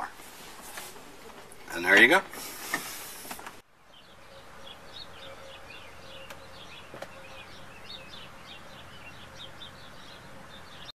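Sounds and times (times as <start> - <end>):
small birds chirping: 1.7 - 10.9.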